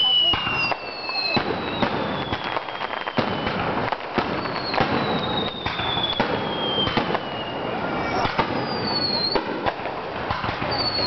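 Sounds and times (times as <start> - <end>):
falling firework whistles: 0.0 - 11.0
fireworks bangs and crackles: 0.0 - 11.0.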